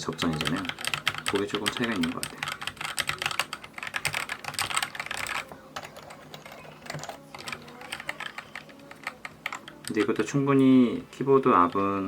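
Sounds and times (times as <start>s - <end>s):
mechanical keyboard typing: 0.0s - 10.5s.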